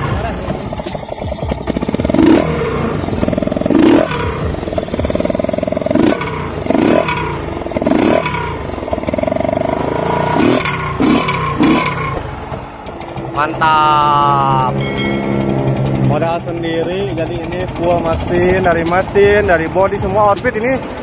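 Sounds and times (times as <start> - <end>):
scooter engine revving: 0.0 - 21.0.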